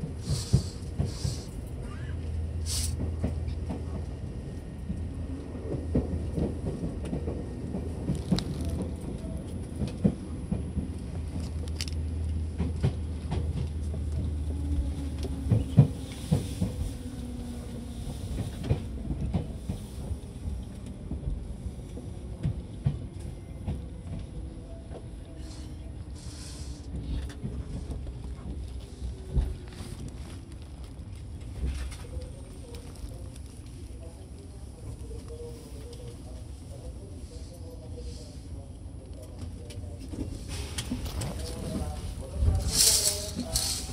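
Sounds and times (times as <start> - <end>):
train equipment humming: 0.0 - 43.9.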